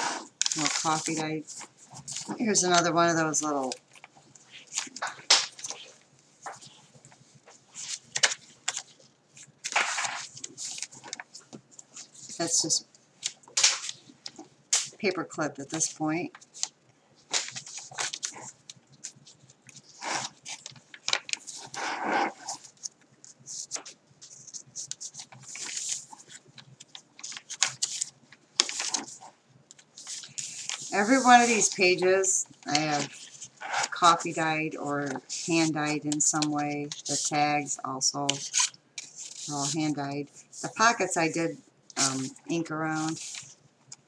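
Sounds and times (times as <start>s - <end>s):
paper pages rustling: 0.0s - 41.1s, 42.0s - 44.0s.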